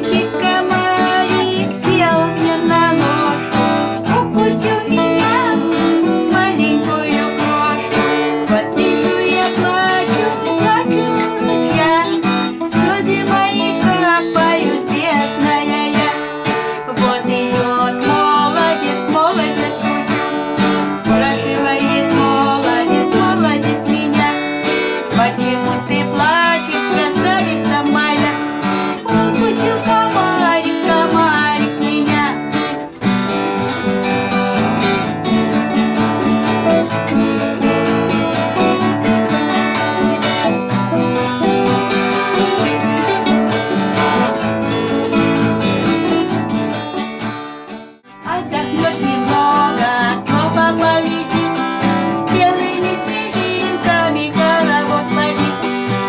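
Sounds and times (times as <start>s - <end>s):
woman singing: 0.0s - 46.8s, 48.1s - 56.0s
acoustic guitars playing: 0.0s - 56.0s.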